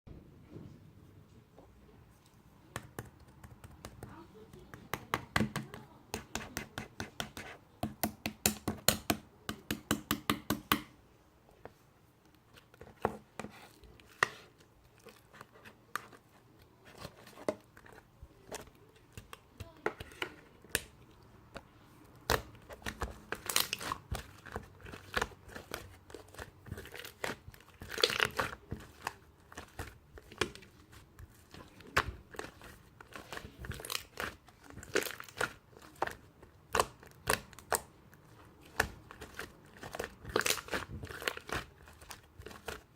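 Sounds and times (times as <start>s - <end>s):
slime squishing with sticky pops: 2.6s - 10.9s, 12.3s - 42.9s.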